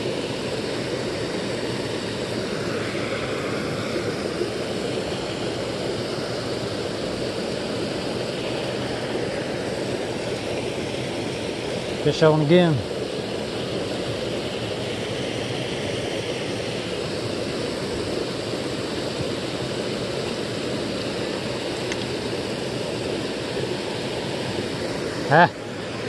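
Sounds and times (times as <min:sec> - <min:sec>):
creek water over cascade: 0:00.0 - 0:26.0.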